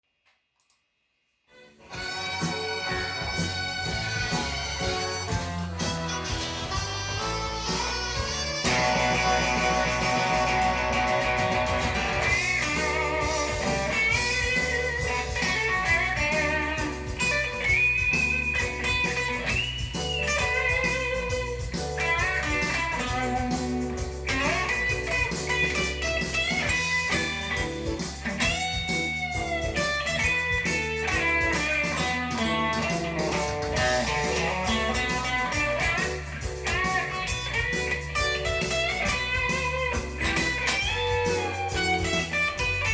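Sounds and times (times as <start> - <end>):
bluesy electric guitar lead: 1.8 - 42.9.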